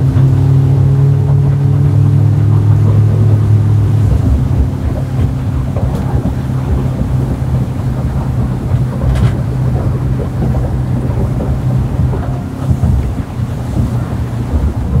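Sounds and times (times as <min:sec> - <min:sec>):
outboard motor running: 0:00.0 - 0:15.0
rushing water: 0:00.0 - 0:15.0
wind buffeting microphone: 0:00.0 - 0:15.0.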